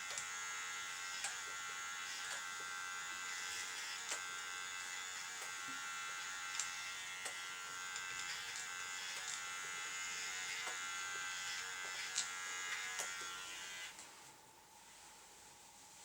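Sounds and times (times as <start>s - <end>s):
electric clippers buzzing: 0.0s - 14.2s.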